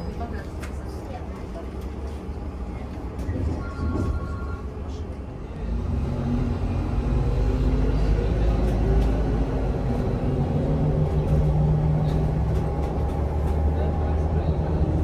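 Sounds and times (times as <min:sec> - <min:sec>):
trolleybus rumbling: 0:00.0 - 0:15.0.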